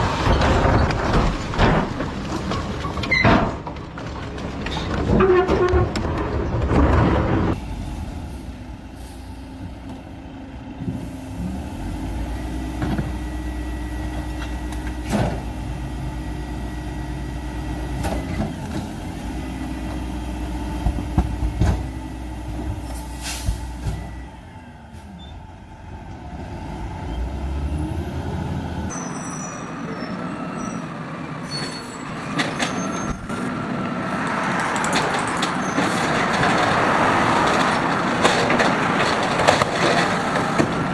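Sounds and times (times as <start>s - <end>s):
garbage truck engine drone: 0.0s - 40.9s.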